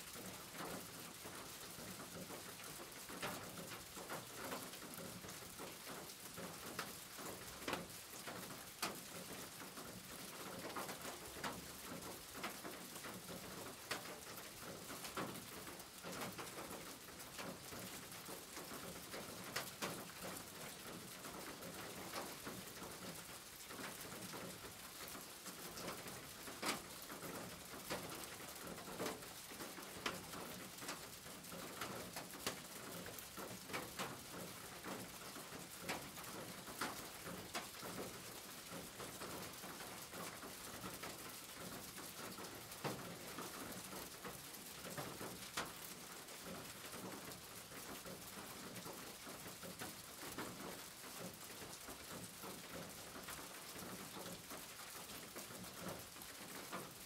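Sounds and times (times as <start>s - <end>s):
rain on a tin roof: 0.0s - 57.0s.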